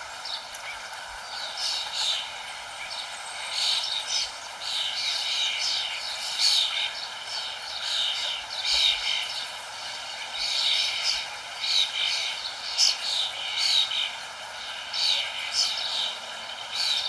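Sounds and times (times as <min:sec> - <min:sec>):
background hiss: 0:00.0 - 0:17.0
birds chirping: 0:00.0 - 0:17.0.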